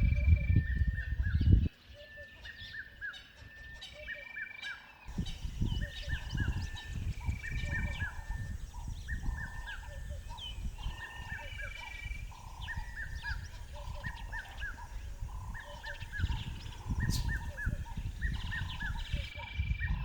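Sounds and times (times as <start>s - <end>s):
birds calling: 0.0s - 20.0s
high bird chirps: 0.0s - 20.0s.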